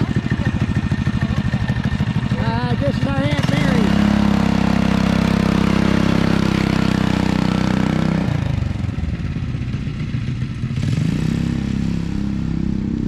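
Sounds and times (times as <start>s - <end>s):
small kart engine running: 0.0s - 13.0s.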